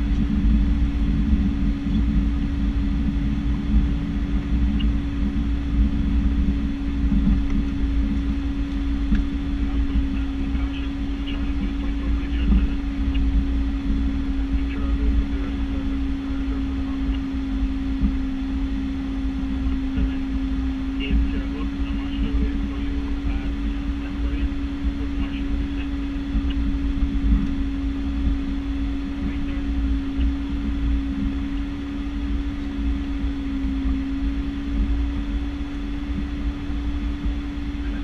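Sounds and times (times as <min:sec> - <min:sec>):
low engine rumble: 0:00.0 - 0:38.0
propeller hum: 0:00.0 - 0:38.0.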